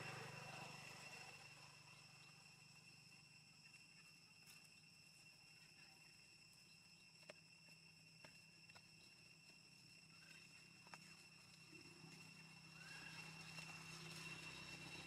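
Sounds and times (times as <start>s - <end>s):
faint high-pitched insect hum: 0.0s - 15.0s.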